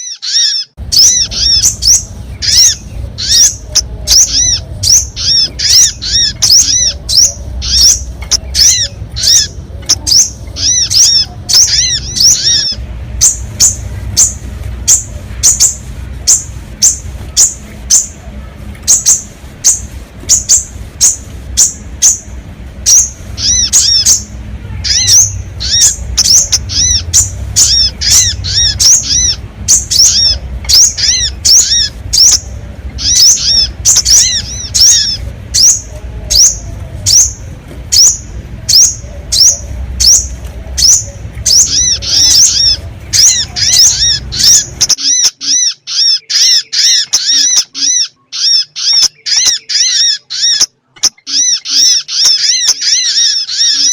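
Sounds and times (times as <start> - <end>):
low rumble: 0.8 - 44.9.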